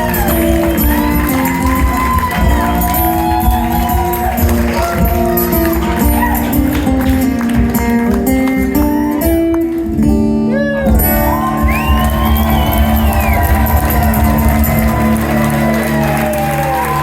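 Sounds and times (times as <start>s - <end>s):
live guitar music: 0.0s - 17.0s.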